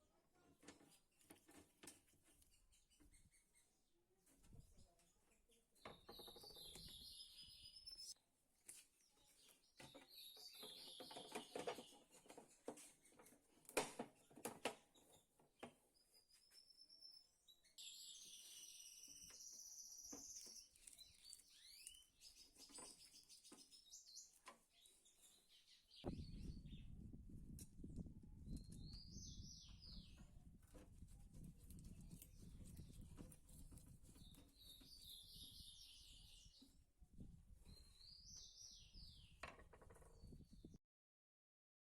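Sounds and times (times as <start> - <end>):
small birds chirping: 0.6 - 40.8.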